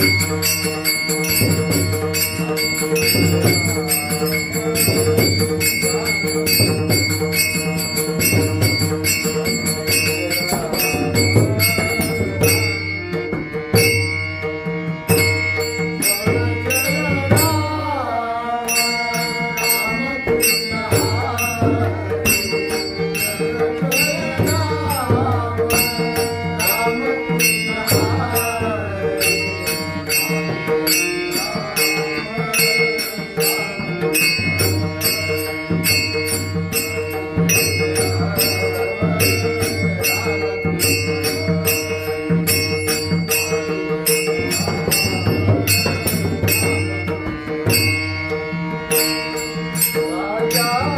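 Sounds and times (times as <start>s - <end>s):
hand cymbals striking: 0.0s - 50.9s
man singing devotional song: 0.0s - 50.9s.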